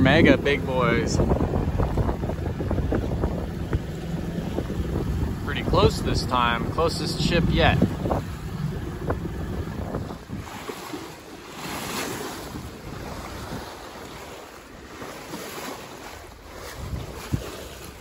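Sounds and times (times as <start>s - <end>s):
sea washing past boat: 0.0s - 18.0s
wind buffeting microphone: 0.0s - 18.0s.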